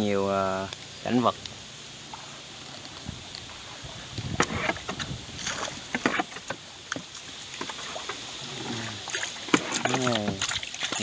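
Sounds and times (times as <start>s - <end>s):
steady hiss: 0.0s - 11.0s
water splashes: 0.8s - 11.0s.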